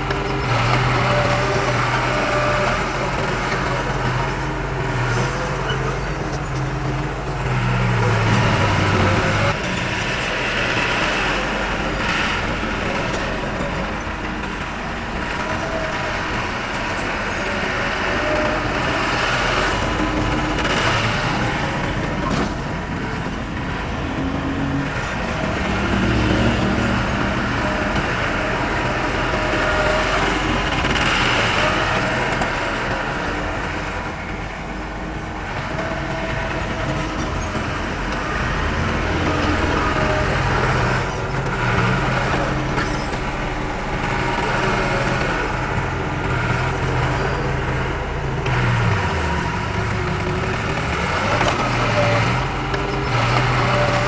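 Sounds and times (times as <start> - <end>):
earthmoving machinery diesel engine: 0.0 - 54.0.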